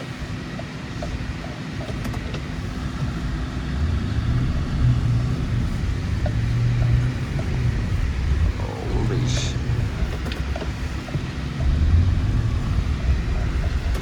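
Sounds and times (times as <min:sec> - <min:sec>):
vehicle engine under load: 0:01.9 - 0:14.0.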